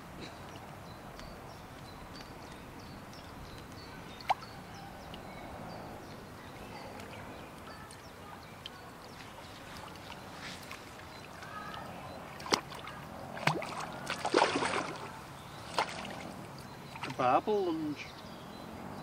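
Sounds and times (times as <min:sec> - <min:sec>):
wind and water rush: 0:00.0 - 0:18.1.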